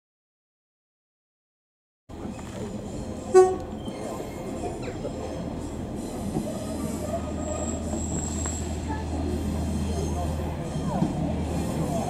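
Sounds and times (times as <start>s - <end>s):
diesel train engine humming: 2.1s - 12.0s
high wheel squeal: 2.2s - 12.0s.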